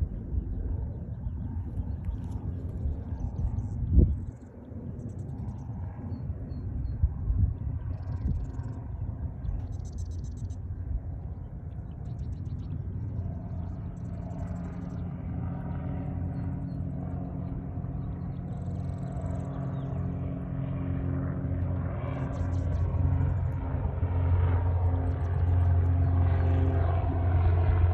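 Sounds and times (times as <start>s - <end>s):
low mechanical rumble: 0.0s - 27.9s.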